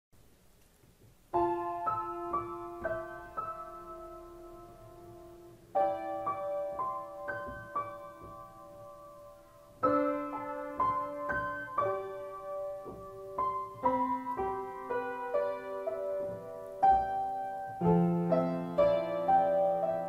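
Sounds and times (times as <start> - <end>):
slow gentle piano music: 0.8 - 20.0.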